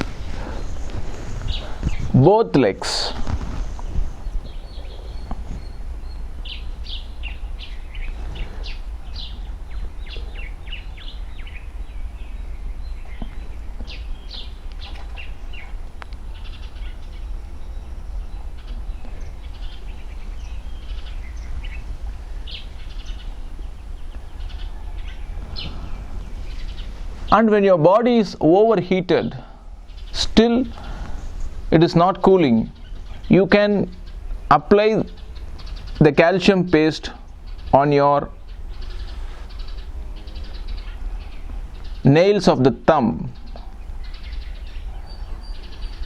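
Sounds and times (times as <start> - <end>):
small birds chirping: 0.0 - 46.0
steady low hum: 0.0 - 46.0.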